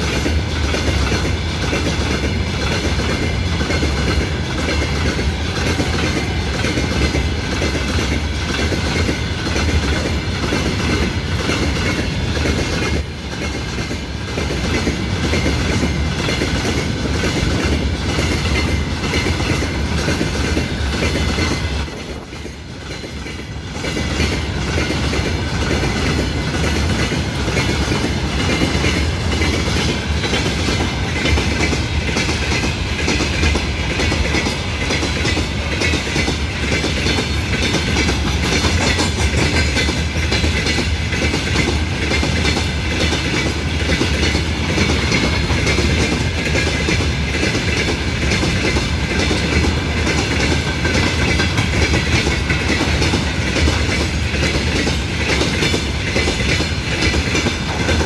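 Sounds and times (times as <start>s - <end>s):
train wheels clacking on rails: 0.0s - 58.0s.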